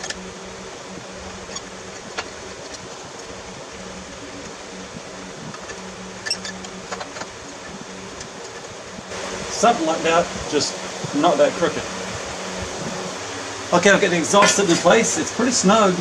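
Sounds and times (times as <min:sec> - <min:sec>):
fan humming: 0:00.0 - 0:16.0.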